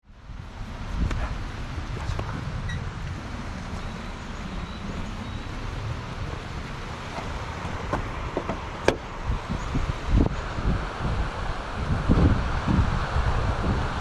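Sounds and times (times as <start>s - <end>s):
wind buffeting microphone: 0.0s - 14.0s
stream water rushing: 0.1s - 14.0s.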